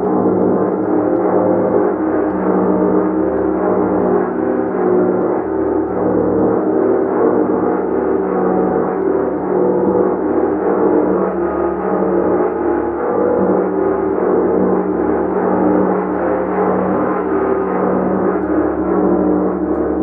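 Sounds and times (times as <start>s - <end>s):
large gong ringing: 0.0s - 20.0s.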